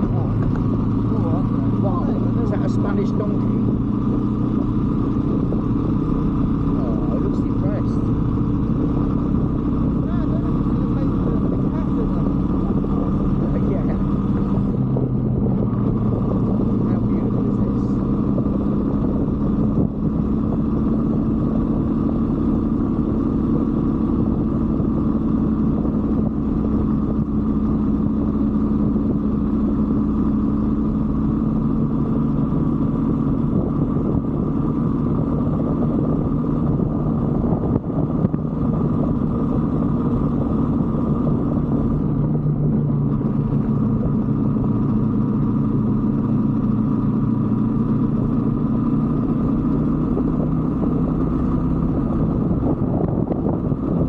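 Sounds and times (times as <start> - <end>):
low wind rumble: 0.0 - 54.0
motorcycle engine running: 0.0 - 54.0.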